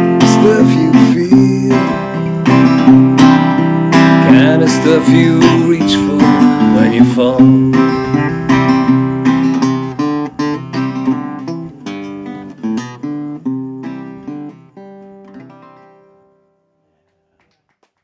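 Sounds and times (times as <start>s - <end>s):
acoustic guitar plucked and strummed: 0.0s - 16.7s.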